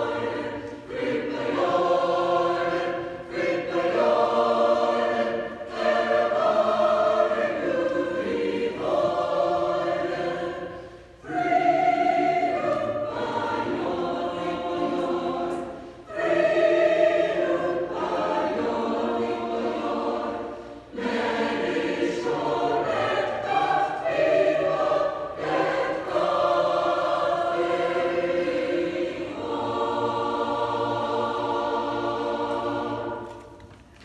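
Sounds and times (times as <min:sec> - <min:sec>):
mixed choir singing: 0:00.0 - 0:33.9.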